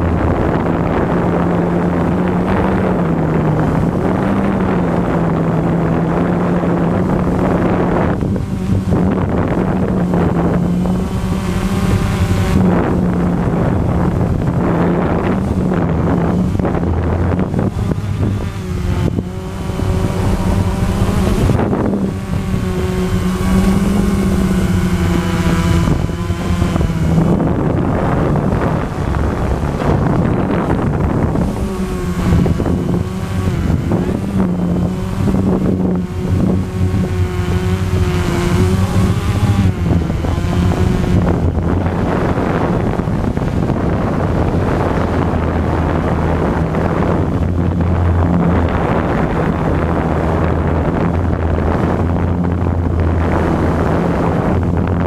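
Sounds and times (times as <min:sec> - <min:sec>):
drone propellers buzzing: 0:00.0 - 0:55.0
wind rushing over microphone: 0:00.0 - 0:55.0.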